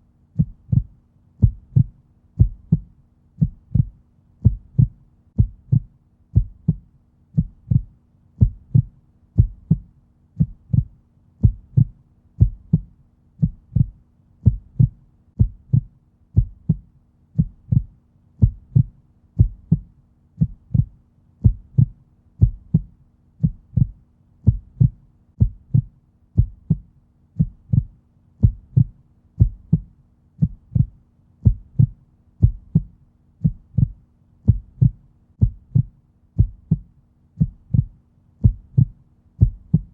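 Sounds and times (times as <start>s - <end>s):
heartbeat thumps: 0.4s - 39.9s.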